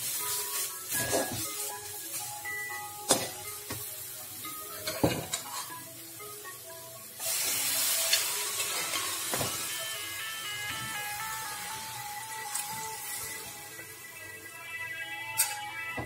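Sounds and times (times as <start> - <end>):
food sizzling in a hot pan: 0.0 - 14.7.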